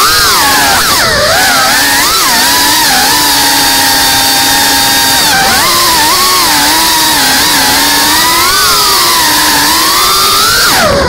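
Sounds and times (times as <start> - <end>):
quadcopter motors whining: 0.0 - 11.0.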